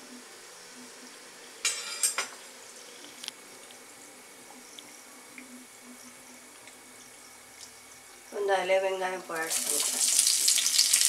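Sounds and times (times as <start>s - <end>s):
spices frying in ghee: 0.3s - 11.0s.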